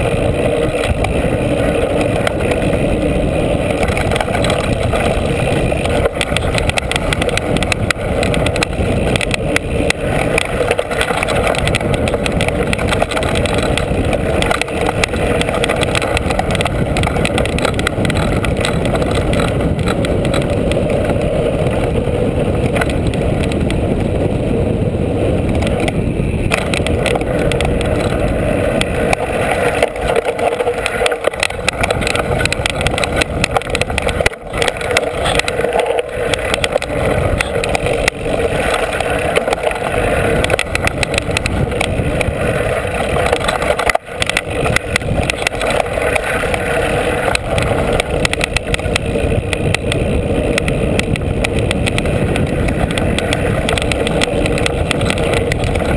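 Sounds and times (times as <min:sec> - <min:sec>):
bike rattling: 0:00.0 - 0:55.9
wind and tyre rush: 0:00.0 - 0:55.9.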